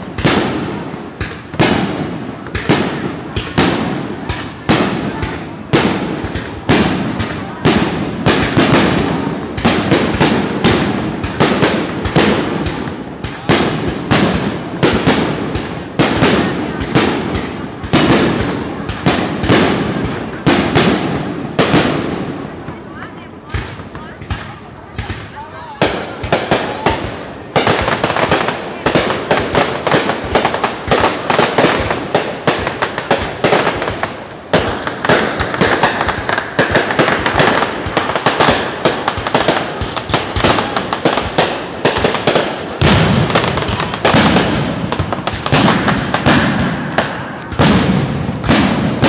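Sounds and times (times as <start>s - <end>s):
deep heavy firework bangs: 0.0s - 49.0s
fireworks bangs and crackles: 0.0s - 49.0s.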